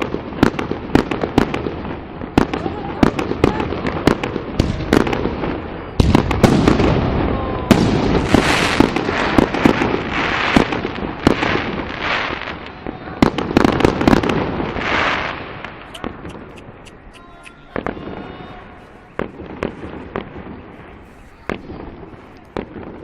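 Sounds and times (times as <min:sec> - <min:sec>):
fireworks bangs: 0:00.0 - 0:23.0
fireworks crackling and hissing: 0:00.0 - 0:23.0.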